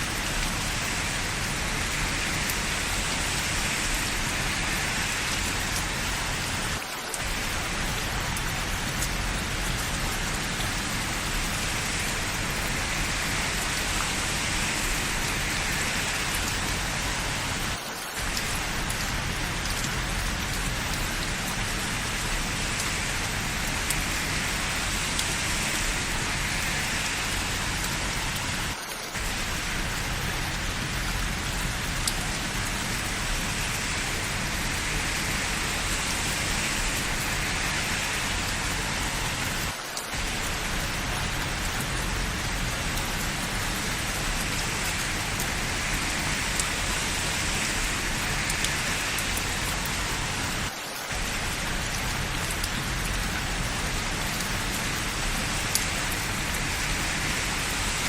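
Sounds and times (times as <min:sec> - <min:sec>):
dense rainfall: 0:00.0 - 0:58.0
raindrop ticks: 0:00.0 - 0:58.0.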